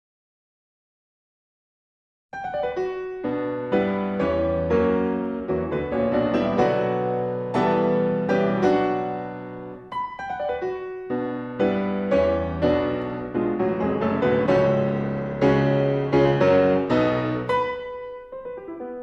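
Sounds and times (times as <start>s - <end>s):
slow piano music: 2.4s - 19.0s.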